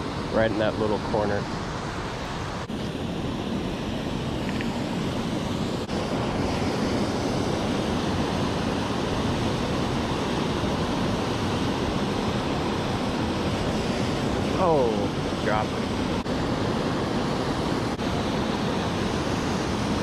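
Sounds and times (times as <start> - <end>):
creek water rushing: 0.0 - 20.0.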